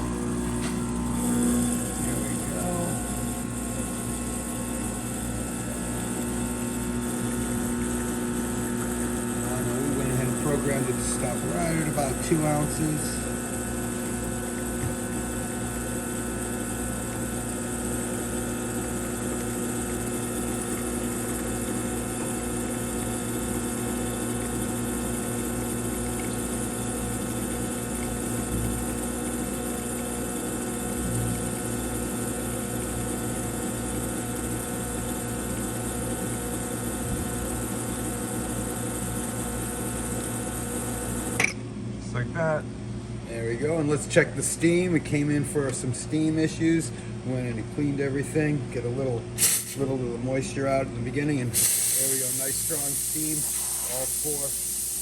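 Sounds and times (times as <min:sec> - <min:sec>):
espresso machine pump humming: 0:00.0 - 0:55.0.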